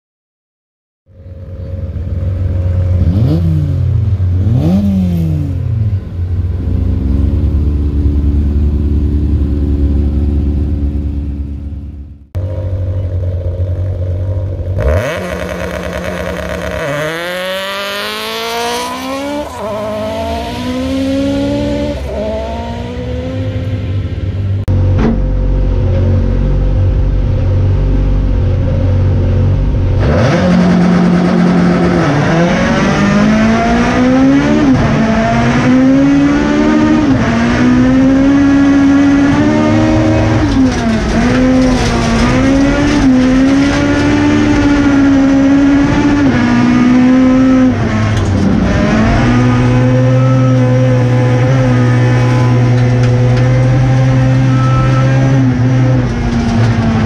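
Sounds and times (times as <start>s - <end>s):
car engine idling and revving: 1.1s - 57.0s.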